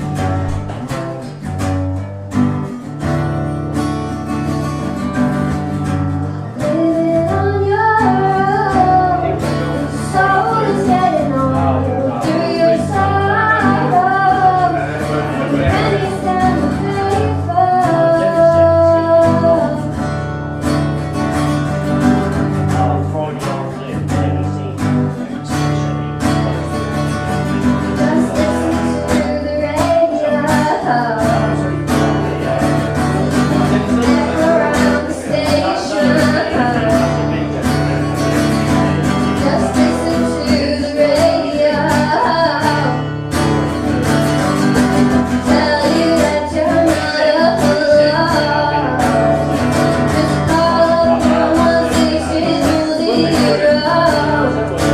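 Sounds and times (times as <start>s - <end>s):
acoustic guitar strummed: 0.0s - 54.9s
person singing: 6.3s - 20.2s, 22.3s - 54.9s.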